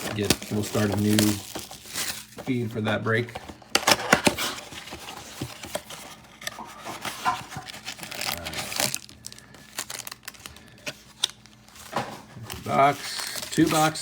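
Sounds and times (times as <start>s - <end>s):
wrapper rustling and tearing: 0.0s - 14.0s.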